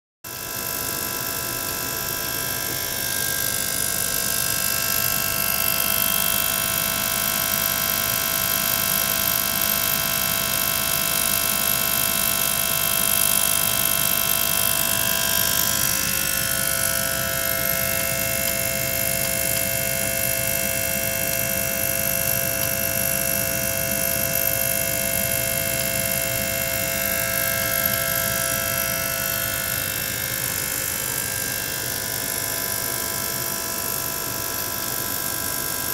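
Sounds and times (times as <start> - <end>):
pump motor hum: 0.3 - 35.9.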